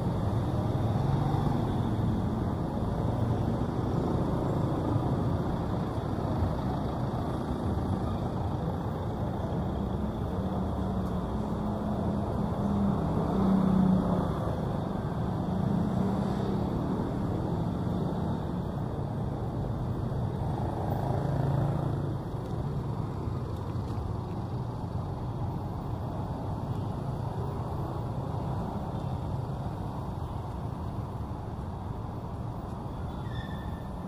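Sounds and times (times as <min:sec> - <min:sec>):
car engines in slow traffic: 0:00.0 - 0:34.0.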